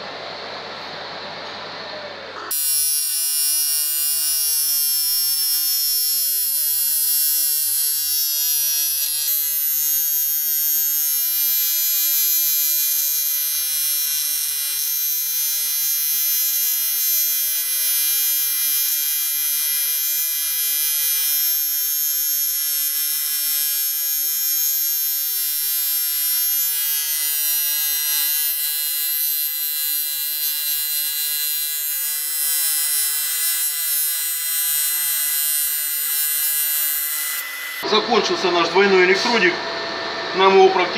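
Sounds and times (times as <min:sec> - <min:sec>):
welding arc buzzing: 0:02.3 - 0:40.9.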